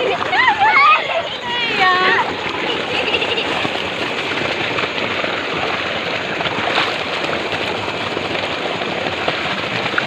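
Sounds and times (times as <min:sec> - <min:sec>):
water gushing onto wet ground: 0:00.0 - 0:10.0.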